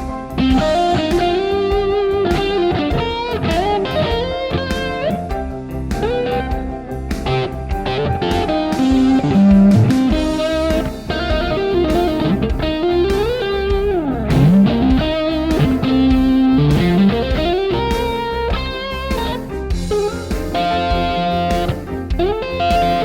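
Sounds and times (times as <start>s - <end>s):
backing track with steady beat: 0.0s - 23.0s
bluesy electric guitar lead: 0.0s - 23.0s.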